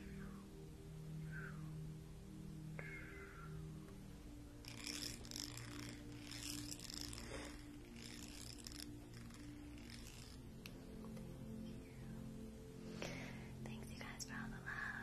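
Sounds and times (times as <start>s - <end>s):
ambient background music: 0.0s - 15.0s.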